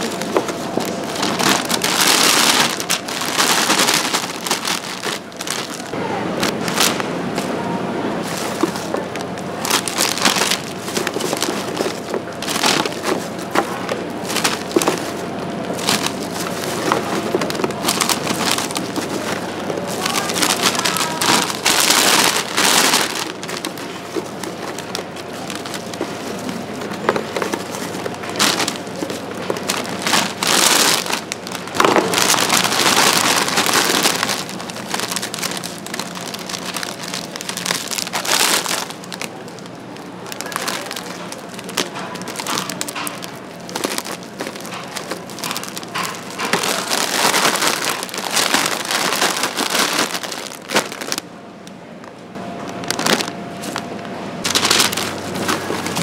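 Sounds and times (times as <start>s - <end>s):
puffed grain crunching: 0.0s - 7.6s, 8.2s - 51.3s, 52.6s - 56.0s.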